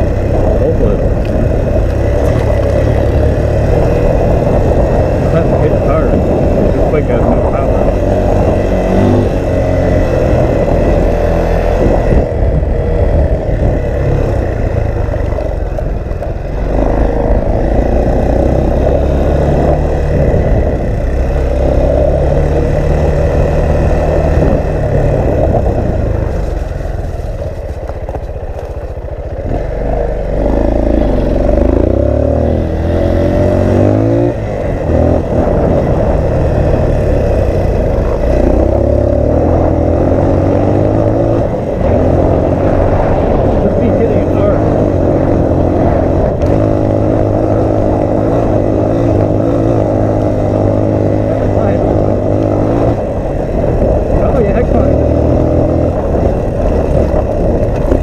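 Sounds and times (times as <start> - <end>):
off-road vehicle engine revving: 0.0 - 27.5, 29.4 - 58.0
vehicle clattering over rough trail: 0.0 - 58.0
wind buffeting microphone: 0.0 - 58.0.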